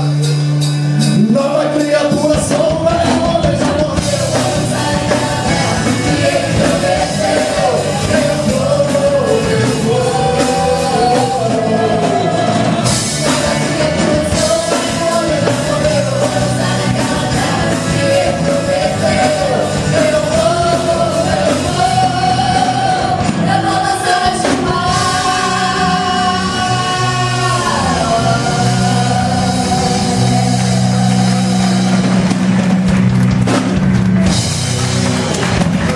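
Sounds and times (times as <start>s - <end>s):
rock band playing: 0.0s - 35.9s
person singing: 1.0s - 32.2s.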